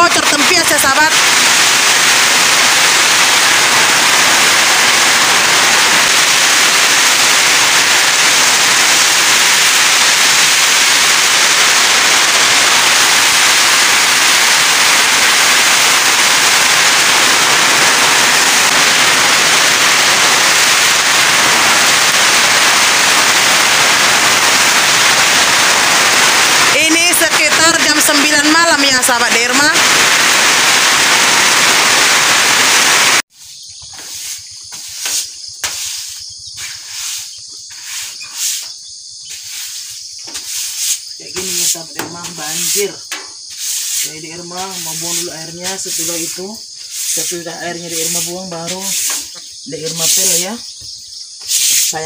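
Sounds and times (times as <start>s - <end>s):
heavy rain pouring: 0.0s - 33.3s, 40.3s - 50.6s.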